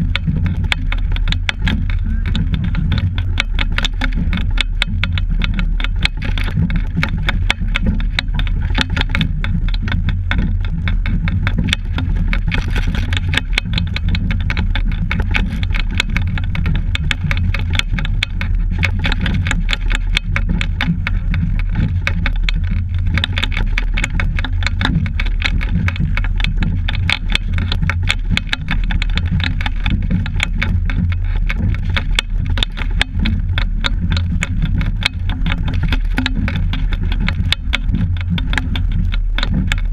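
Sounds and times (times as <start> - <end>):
dense crackling: 0.0 - 39.9
wind noise: 0.0 - 39.9.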